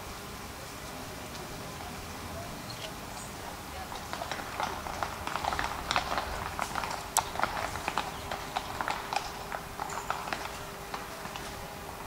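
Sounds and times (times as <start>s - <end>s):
horse hooves clopping on cobblestones: 1.3s - 12.0s.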